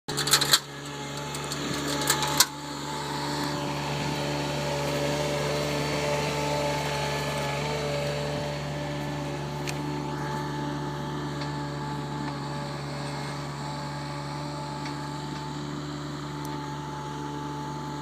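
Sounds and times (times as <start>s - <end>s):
loader engine hum and whine: 0.1s - 18.0s.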